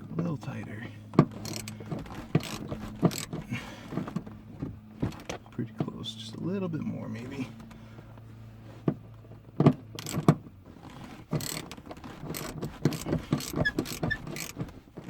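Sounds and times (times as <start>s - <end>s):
seatbelt hardware clinks and knocks: 1.0s - 6.0s, 7.5s - 15.0s.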